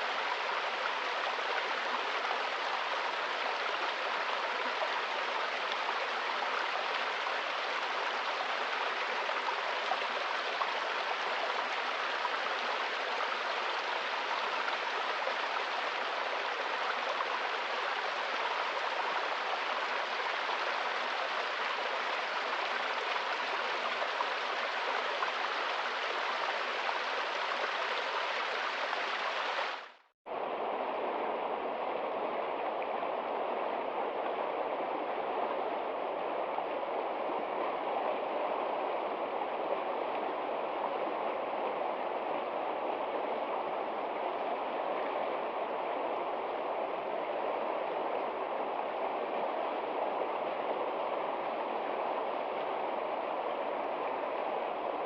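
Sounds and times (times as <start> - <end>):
flowing water from a stream: 0.0 - 55.0
lower running water: 0.0 - 55.0.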